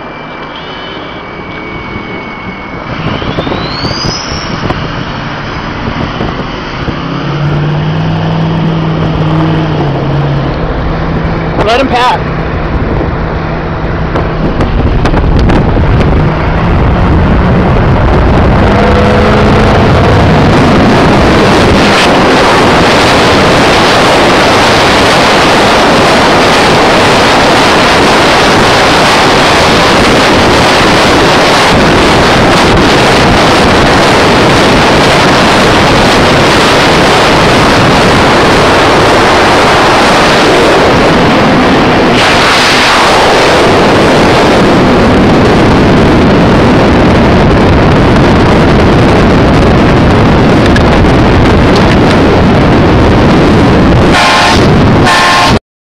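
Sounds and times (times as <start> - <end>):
road noise from moving vehicle: 0.0 - 55.6
wind rushing over microphone: 1.2 - 55.6.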